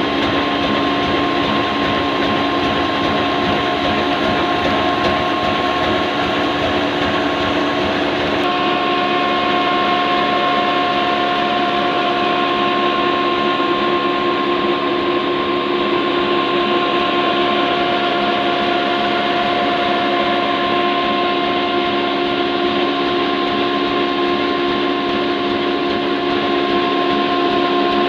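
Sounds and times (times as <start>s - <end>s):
grinding mill machine noise: 0.0s - 28.0s.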